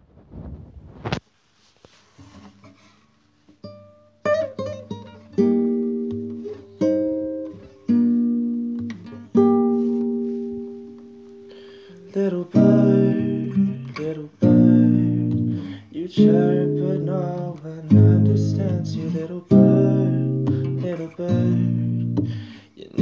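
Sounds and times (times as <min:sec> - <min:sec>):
acoustic guitar chords: 0:03.6 - 0:23.0.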